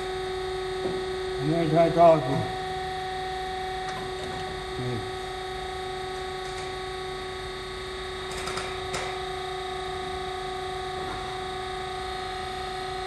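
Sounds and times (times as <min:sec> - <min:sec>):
grinding machine hum: 0:00.0 - 0:13.0.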